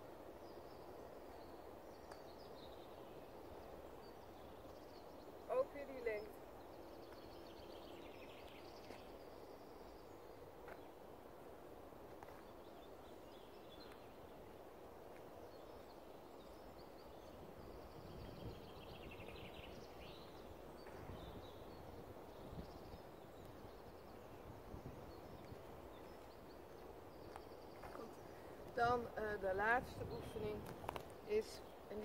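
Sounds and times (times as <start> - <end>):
faint songbirds trilling: 0.0 - 32.0.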